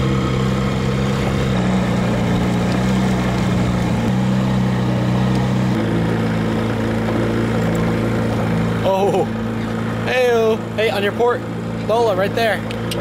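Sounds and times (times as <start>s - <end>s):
small outboard motor running: 0.0s - 13.0s.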